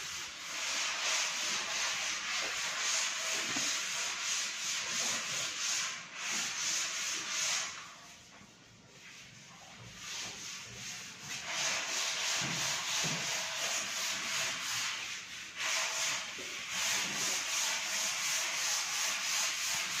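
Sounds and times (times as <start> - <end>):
sanding strokes: 0.0 - 20.0.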